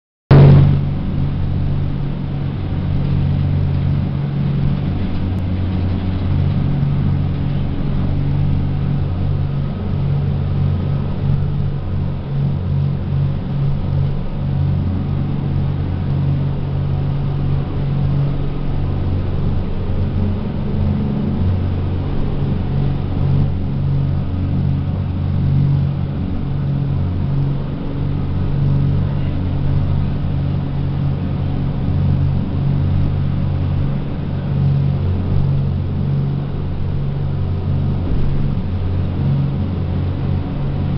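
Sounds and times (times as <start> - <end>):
speedboat engines droning: 0.3 - 40.9.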